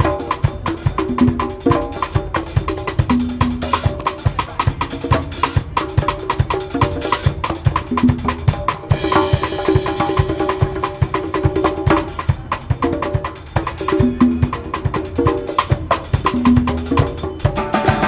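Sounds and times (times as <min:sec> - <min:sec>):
drums and percussion groove: 0:00.0 - 0:18.0.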